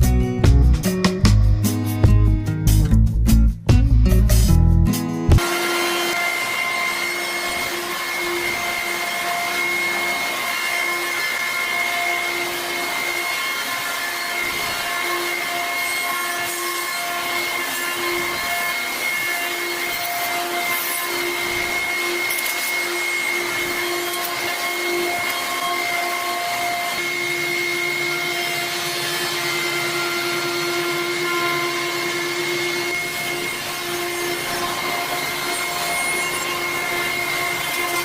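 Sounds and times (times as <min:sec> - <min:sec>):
bit cutting wood hiss: 0:05.4 - 0:38.0
router spindle whine: 0:05.4 - 0:38.0.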